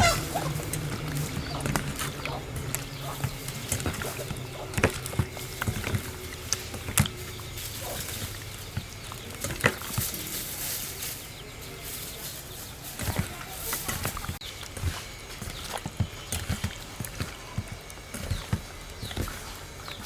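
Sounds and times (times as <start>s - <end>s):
utensils tapping and knocking: 0.0s - 20.0s.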